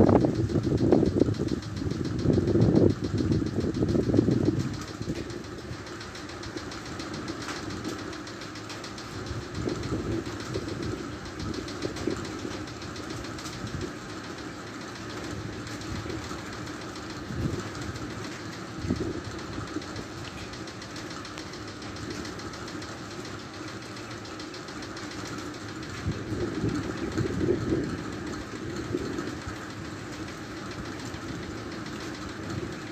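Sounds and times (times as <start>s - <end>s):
low droning rumble: 0.0s - 32.9s.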